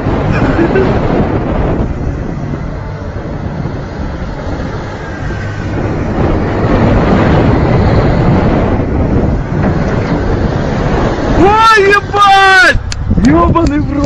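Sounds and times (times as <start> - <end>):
excavator diesel engine running: 0.0 - 14.0
wind rumble on microphone: 0.0 - 14.0.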